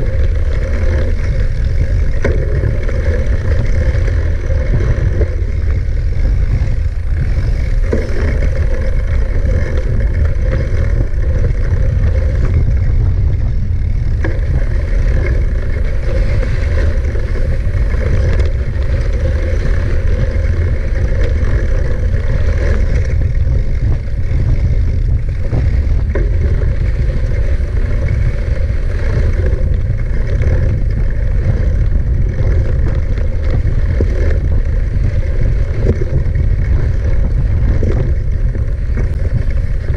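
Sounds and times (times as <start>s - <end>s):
mountain bike rattling: 0.0s - 39.9s
wind rumble on microphone: 0.0s - 39.9s.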